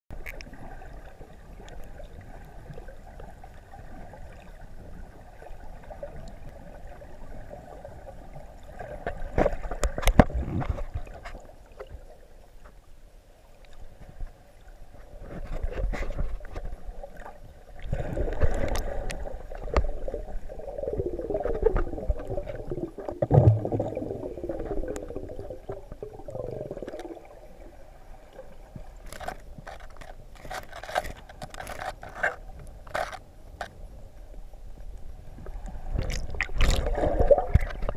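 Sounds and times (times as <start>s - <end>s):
muffled underwater water sloshing: 0.1s - 37.9s.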